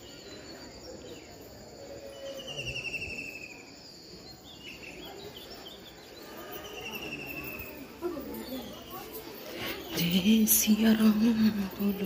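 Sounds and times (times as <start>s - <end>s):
bird chirps: 0.0s - 10.1s
faint outdoor background noise: 0.0s - 12.0s.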